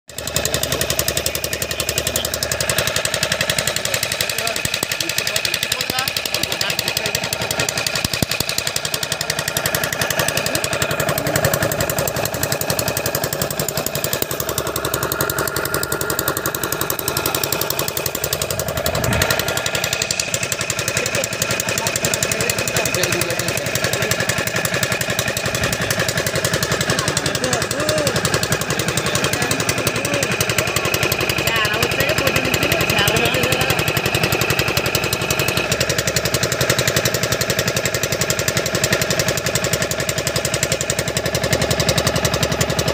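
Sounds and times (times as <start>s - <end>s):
boat engine running: 0.1s - 42.9s.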